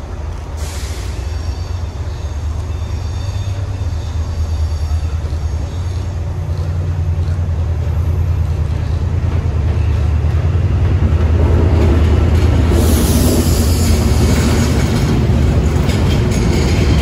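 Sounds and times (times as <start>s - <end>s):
diesel train engine throbbing: 0.0s - 17.0s.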